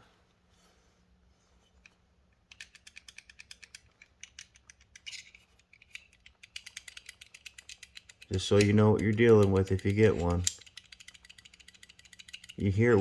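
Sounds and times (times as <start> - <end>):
light metallic clicks: 1.8 - 13.0
knife blade rattling in handle: 2.5 - 13.0.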